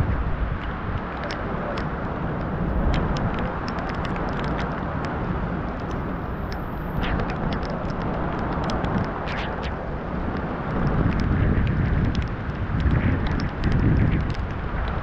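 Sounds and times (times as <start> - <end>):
rushing wind: 0.0 - 15.0
sharp ticks: 0.6 - 4.8, 5.6 - 15.0.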